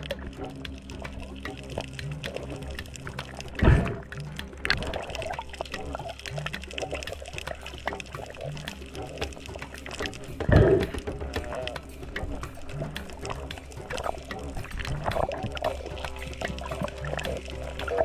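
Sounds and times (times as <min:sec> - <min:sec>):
background music with low note: 0:00.0 - 0:18.0
rush of water: 0:00.0 - 0:18.0
underwater crackle of clicks: 0:00.0 - 0:18.0.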